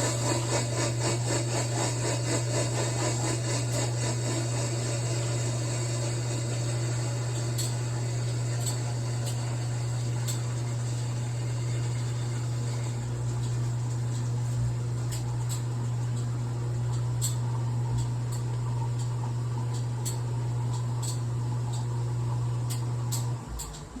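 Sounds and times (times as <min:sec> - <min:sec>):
dishwasher motor hum: 0:00.0 - 0:24.0.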